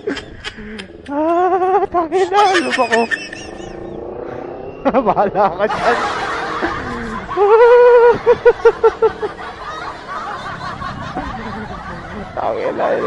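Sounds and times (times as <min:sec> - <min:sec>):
person laughing: 0:00.0 - 0:03.9, 0:04.8 - 0:13.0
riding noise: 0:00.0 - 0:13.0.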